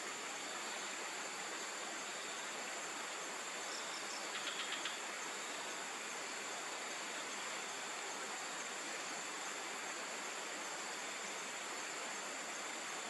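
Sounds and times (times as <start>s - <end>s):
high insect drone: 0.0s - 13.0s
rainforest background hiss: 0.0s - 13.0s.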